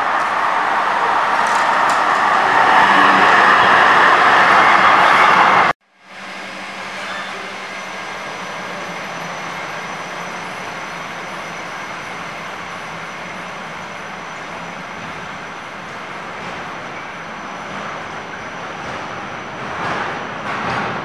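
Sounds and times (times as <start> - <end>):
tram motor tones: 0.0 - 21.0
tram running noise: 0.0 - 21.0.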